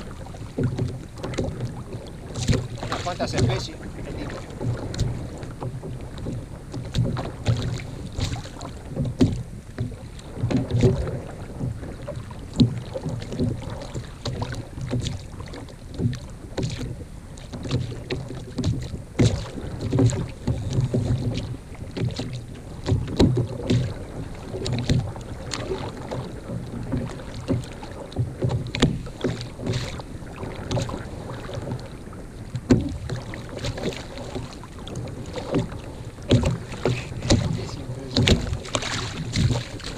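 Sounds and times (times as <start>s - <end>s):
wind buffeting microphone: 0.0s - 15.1s, 16.0s - 39.9s
waves lapping against hull: 0.0s - 39.9s.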